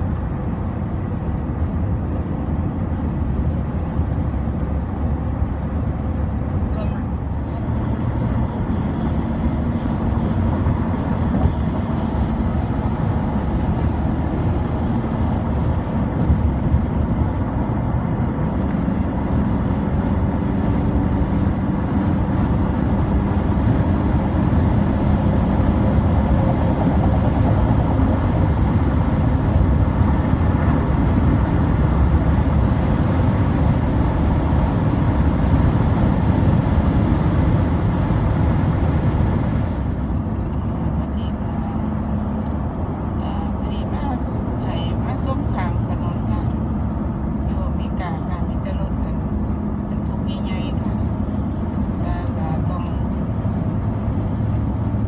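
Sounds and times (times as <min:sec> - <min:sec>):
highway traffic rumble: 0:00.0 - 0:55.0.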